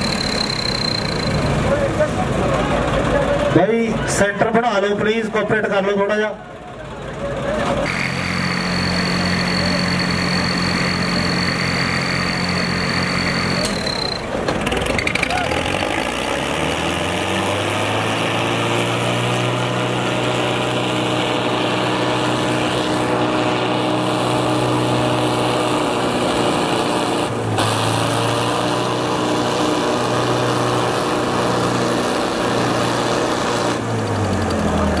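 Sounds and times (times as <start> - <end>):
tractor diesel engines running hard: 0.0 - 35.0.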